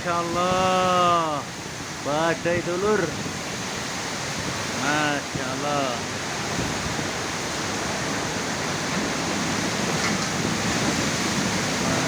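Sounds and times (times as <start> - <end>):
heavy rain: 0.0 - 12.0
wind: 0.0 - 12.0.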